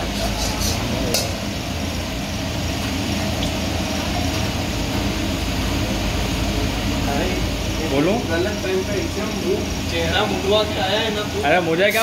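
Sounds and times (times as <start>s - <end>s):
gas wok burner rushing: 0.0s - 12.0s.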